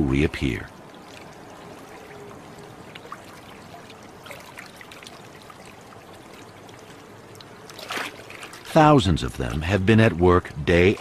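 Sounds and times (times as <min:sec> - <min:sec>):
river water trickling and lapping: 0:00.0 - 0:11.0.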